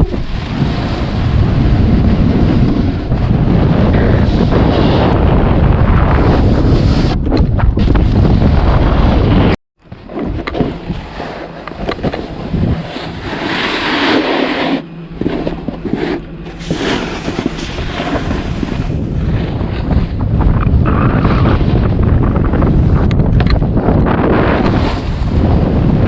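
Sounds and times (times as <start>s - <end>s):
snowboard scraping on snow: 0.0s - 7.2s, 7.8s - 23.1s, 23.8s - 26.0s
wind rushing over microphone: 0.0s - 26.0s.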